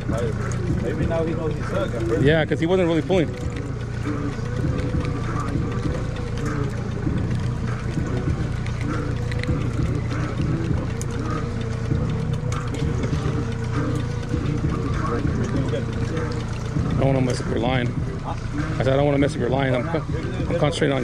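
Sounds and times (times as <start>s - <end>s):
fishing reel ticking: 0.0s - 21.0s
outboard motor running: 0.0s - 21.0s.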